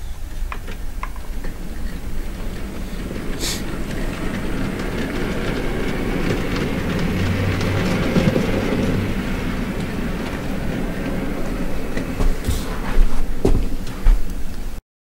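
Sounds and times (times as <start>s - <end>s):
model train motor hum: 0.0s - 14.6s
model train wheels rattling: 0.2s - 14.7s.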